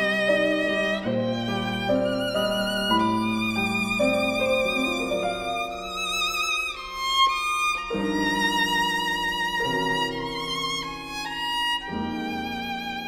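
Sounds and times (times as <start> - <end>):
violin slow melody: 0.0 - 13.0.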